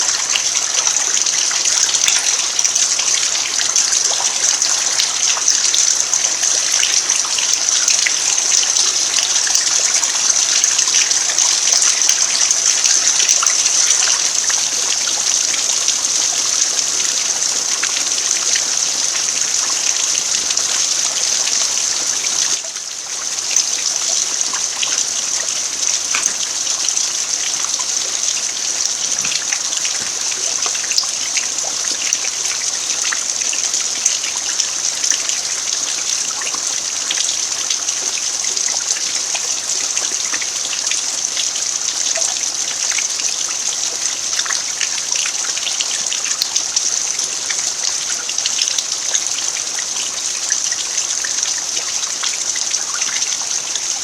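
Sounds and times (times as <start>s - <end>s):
rain falling on earth: 0.0s - 54.0s.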